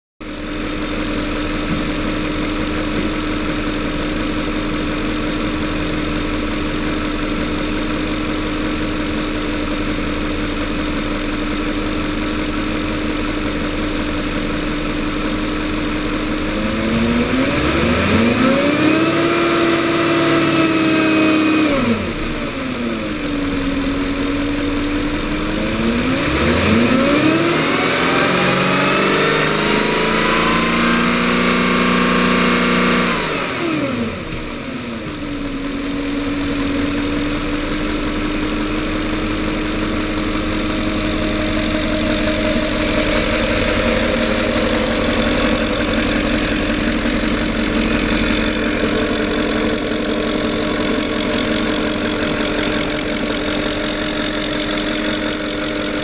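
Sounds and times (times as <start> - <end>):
car engine idling and revving: 0.2 - 56.0.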